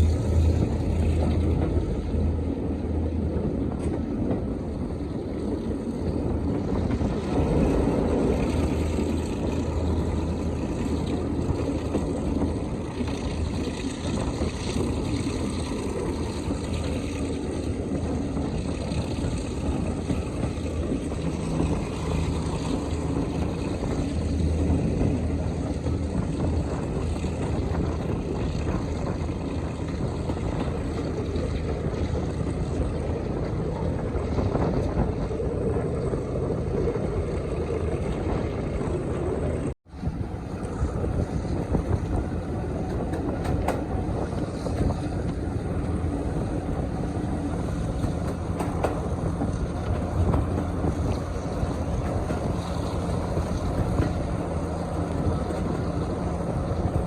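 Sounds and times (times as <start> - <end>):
diesel locomotive engine running: 0.0 - 57.0.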